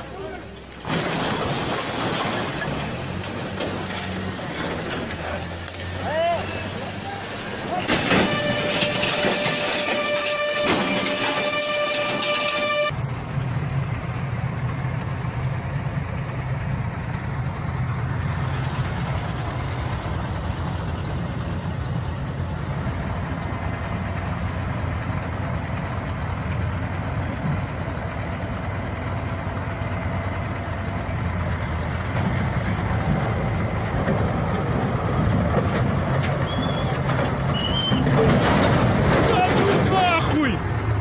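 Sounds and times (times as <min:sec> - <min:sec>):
heavy vehicle engine rumbling: 0:00.0 - 0:41.0.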